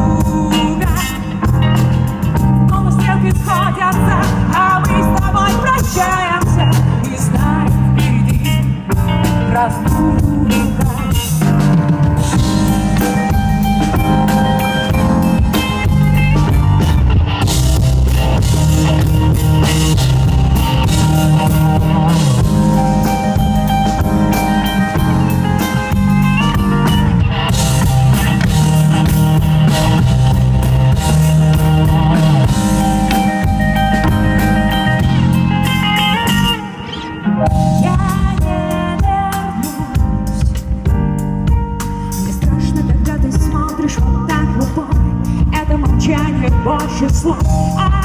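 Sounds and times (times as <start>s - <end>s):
bass guitar: 0.0s - 48.0s
drum kit: 0.0s - 48.0s
electric guitar: 0.0s - 48.0s.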